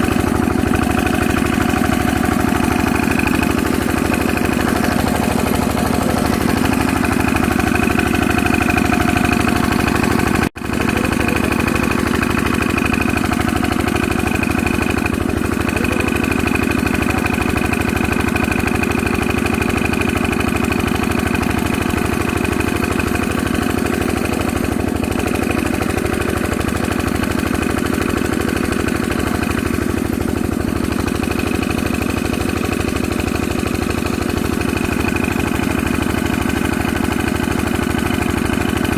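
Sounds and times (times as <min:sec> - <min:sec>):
diesel engine driving water pump: 0:00.0 - 0:38.9.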